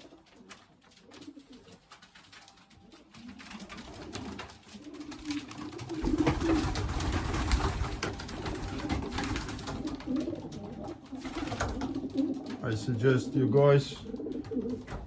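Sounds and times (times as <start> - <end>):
clicks of birds moving: 0.0 - 13.0, 13.6 - 15.0
pigeons cooing: 0.0 - 15.0.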